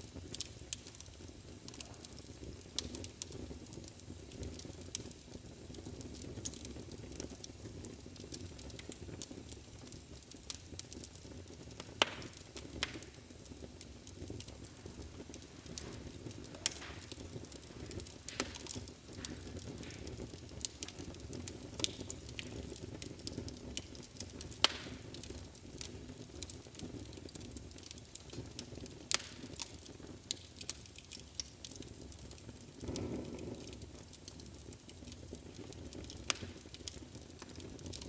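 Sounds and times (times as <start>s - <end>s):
fire crackles and pops: 0.0s - 38.0s
low rustle of flames: 0.0s - 38.0s.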